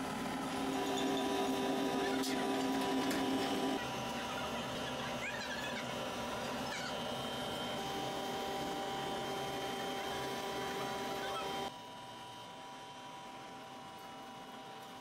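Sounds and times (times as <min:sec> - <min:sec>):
background hum with steady tones: 0:00.0 - 0:15.0.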